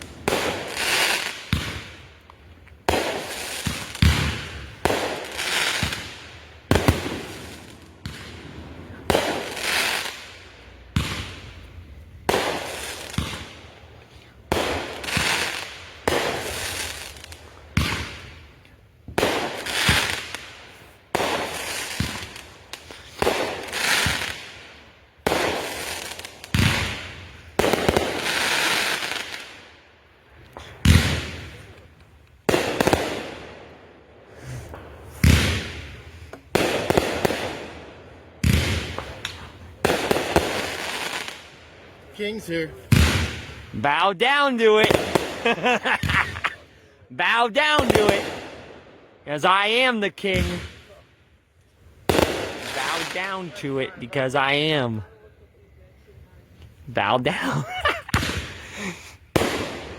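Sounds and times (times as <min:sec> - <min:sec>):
firework bangs: 0:00.0 - 0:02.0, 0:02.8 - 0:11.5, 0:12.2 - 0:13.7, 0:14.4 - 0:18.4, 0:19.1 - 0:29.6, 0:30.6 - 0:41.6, 0:42.4 - 0:46.6, 0:47.2 - 0:51.0, 0:52.0 - 0:53.8, 0:57.7 - 0:59.9
crackling hiss of fireworks: 0:00.0 - 0:59.9.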